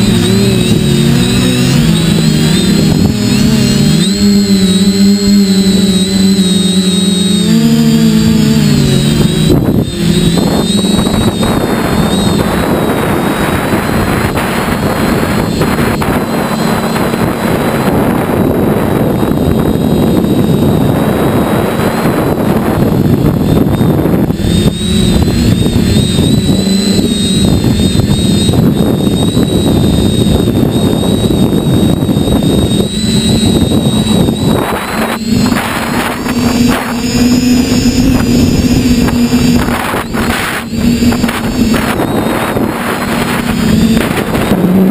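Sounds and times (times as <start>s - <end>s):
model aircraft motor whine: 0.0s - 44.9s
wind rush over microphone: 0.0s - 44.9s.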